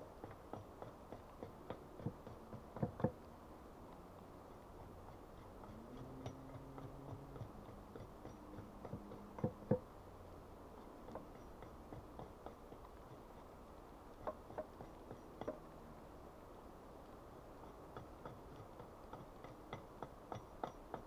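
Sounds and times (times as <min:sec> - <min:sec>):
light ticks and knocks: 0:00.0 - 0:10.1, 0:10.7 - 0:15.8, 0:16.5 - 0:21.0.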